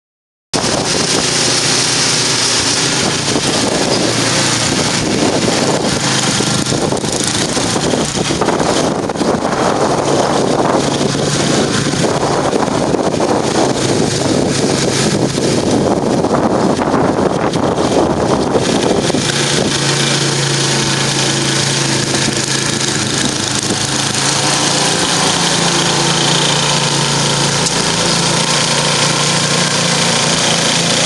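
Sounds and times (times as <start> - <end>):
dense rushing noise: 0.6 - 31.0
snowblower engine running: 0.6 - 31.0
wind buffeting microphone: 0.6 - 31.0.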